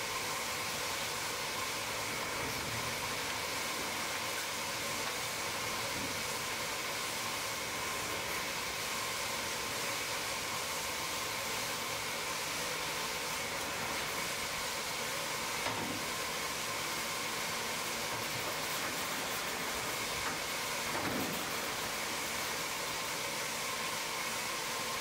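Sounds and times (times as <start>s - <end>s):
machine hiss and hum: 0.0s - 25.0s.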